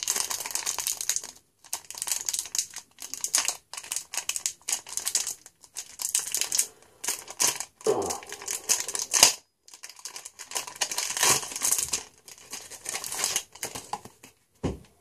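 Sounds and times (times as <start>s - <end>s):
foil wrapper tearing and crinkling: 0.0s - 14.2s.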